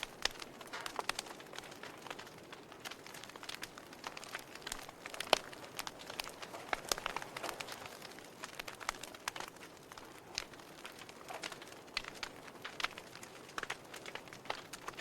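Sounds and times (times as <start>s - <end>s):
soft steady hiss: 0.0s - 15.0s
wood fire crackling: 0.0s - 15.0s.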